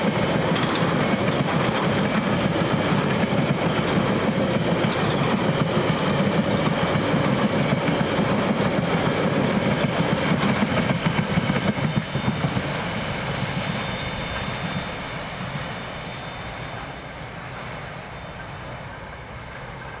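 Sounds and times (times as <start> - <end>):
freight train wagons rolling on rails: 0.0 - 20.0.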